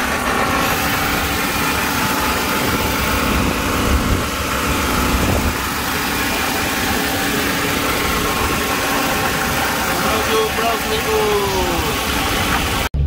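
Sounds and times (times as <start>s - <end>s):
water rushing noise: 0.0s - 12.9s
boat engine droning: 0.0s - 13.0s.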